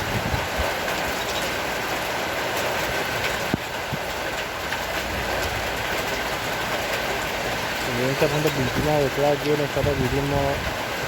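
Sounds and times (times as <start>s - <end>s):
heavy rain hissing: 0.0s - 11.0s
raindrops ticking on a surface: 0.0s - 11.0s.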